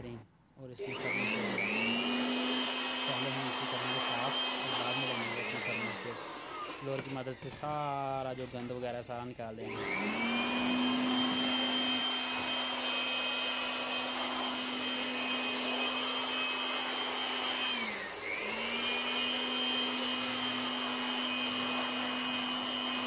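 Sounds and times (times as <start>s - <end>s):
electric blower motor whine: 0.8s - 7.6s, 9.6s - 23.0s.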